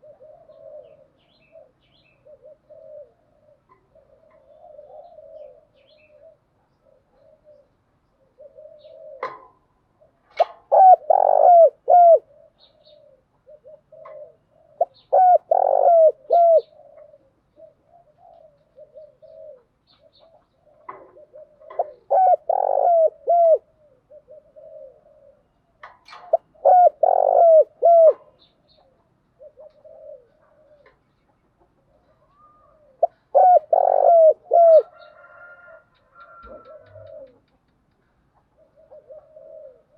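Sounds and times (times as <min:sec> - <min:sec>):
soft low cooing: 0:00.0 - 0:25.5, 0:26.4 - 0:31.0, 0:32.0 - 0:35.1, 0:35.7 - 0:37.6, 0:38.6 - 0:39.9
dove cooing: 0:00.0 - 0:37.6, 0:38.2 - 0:39.9.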